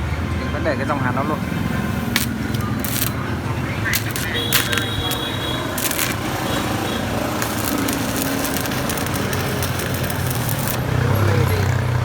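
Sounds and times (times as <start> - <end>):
welding arc crackling and sizzling: 2.0 - 11.8.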